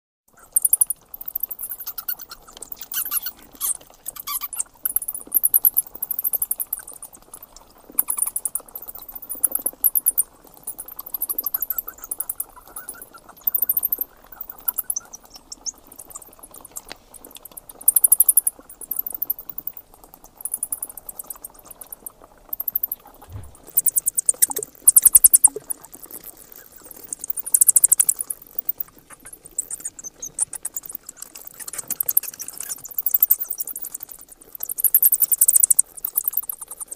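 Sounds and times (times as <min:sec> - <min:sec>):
bats squeaking and clicking: 0:00.3 - 0:36.9.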